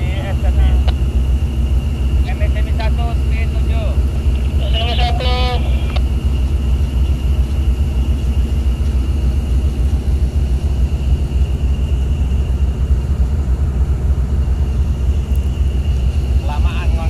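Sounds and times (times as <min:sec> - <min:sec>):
boat diesel engine rumbling: 0:00.0 - 0:17.0
faint high whine: 0:00.0 - 0:17.0.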